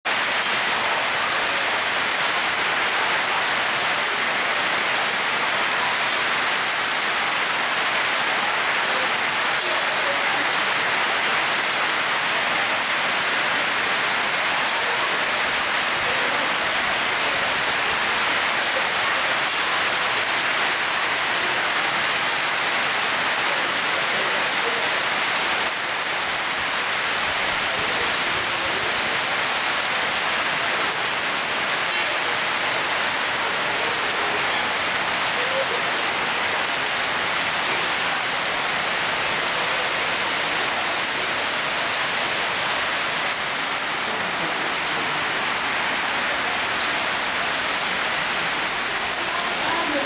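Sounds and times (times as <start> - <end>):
hail and heavy rain pelting: 0.0 - 50.0.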